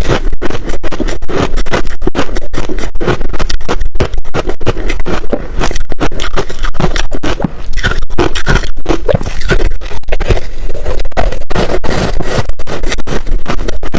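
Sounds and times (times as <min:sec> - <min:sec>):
ice crunching and chewing: 0:00.0 - 0:13.9.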